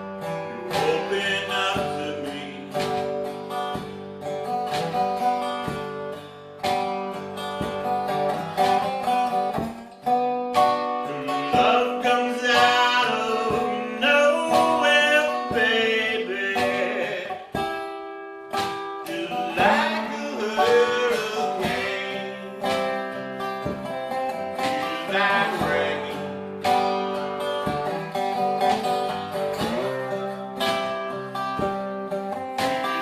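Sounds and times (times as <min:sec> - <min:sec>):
acoustic guitar playing blues: 0:00.0 - 0:33.0.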